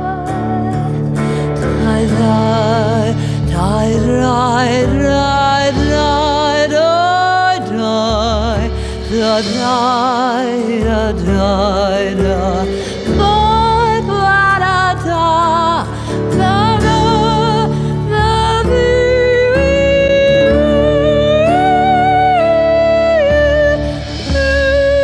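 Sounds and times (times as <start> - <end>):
woman singing with vibrato: 0.0 - 25.0.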